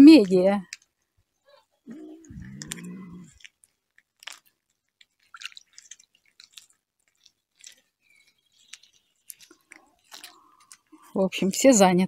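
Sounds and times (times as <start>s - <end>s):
cats chewing raw fish: 0.2s - 11.7s.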